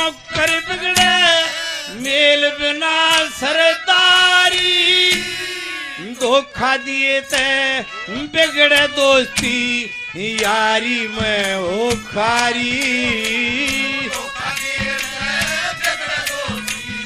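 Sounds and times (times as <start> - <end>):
man singing through pa system: 0.0 - 17.0.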